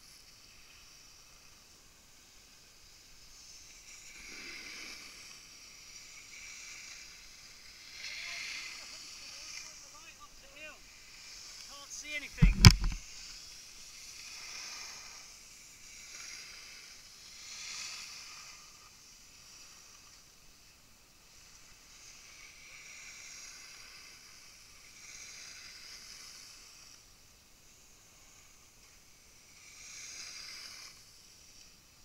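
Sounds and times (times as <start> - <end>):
skis hissing and scraping over snow: 0.0 - 32.0.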